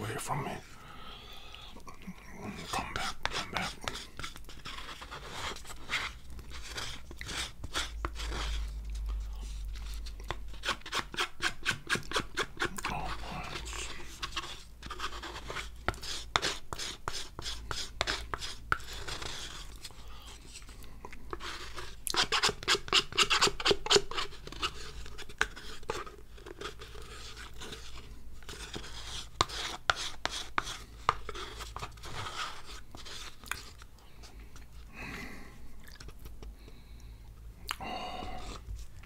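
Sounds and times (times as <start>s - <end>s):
spoon scraping a dessert pot: 2.4s - 34.9s, 38.2s - 39.0s.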